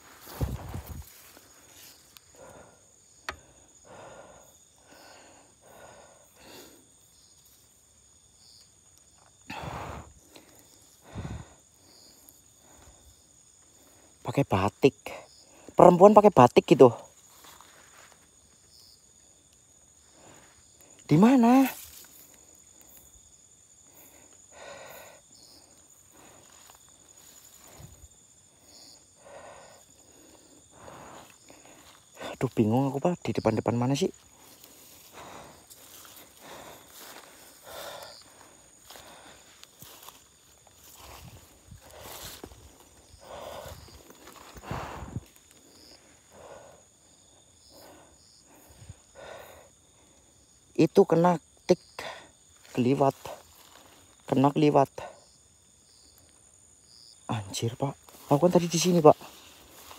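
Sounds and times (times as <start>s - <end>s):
grass and leaves rustling: 0.0s - 59.9s
night insects chorus: 0.0s - 59.9s.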